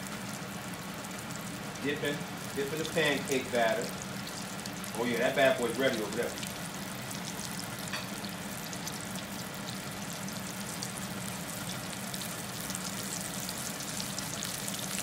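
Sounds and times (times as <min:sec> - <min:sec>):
mushroom frying in hot oil: 0:00.0 - 0:15.0.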